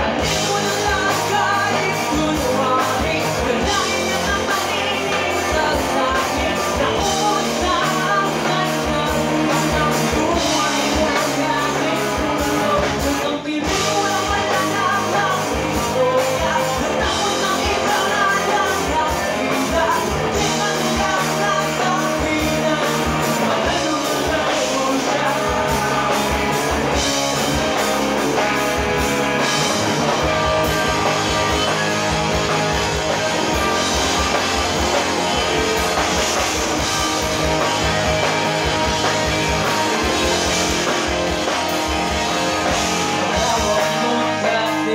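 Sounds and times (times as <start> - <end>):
man singing: 0.0 - 41.3, 42.6 - 44.9
live rock band playing: 0.0 - 44.9.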